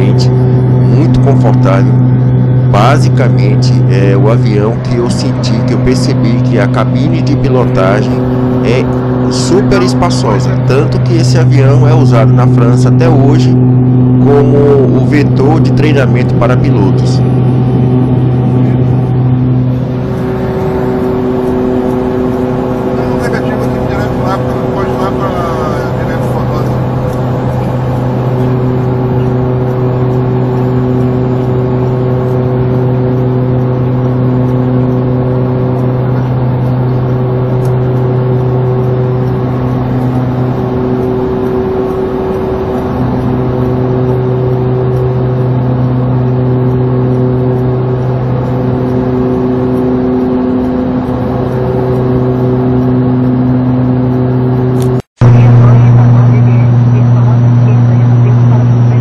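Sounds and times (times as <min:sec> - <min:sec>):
turboprop engine drone: 0:00.0 - 0:59.0.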